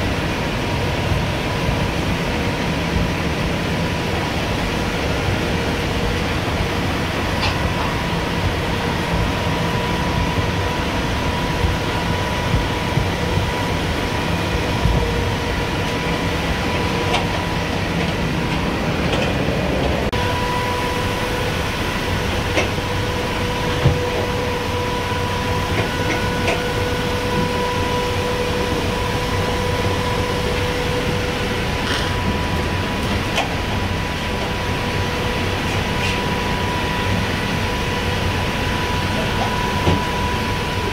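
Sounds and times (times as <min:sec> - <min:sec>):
ventilation fans droning: 0:00.0 - 0:40.9.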